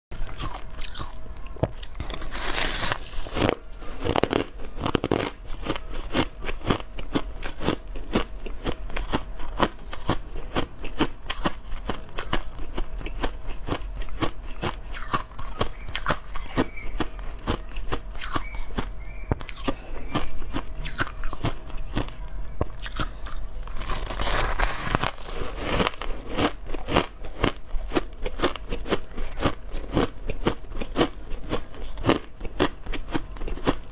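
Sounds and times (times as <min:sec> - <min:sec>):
ice being chewed: 0:00.2 - 0:33.9.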